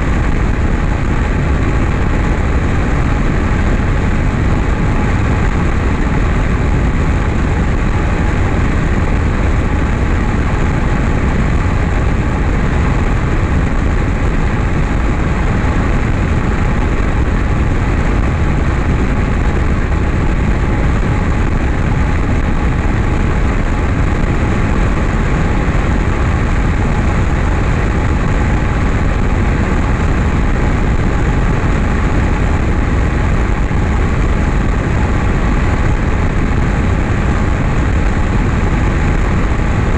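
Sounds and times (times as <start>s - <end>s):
airplane engine and propeller drone: 0.0s - 39.9s
heavy wind rush: 0.0s - 39.9s.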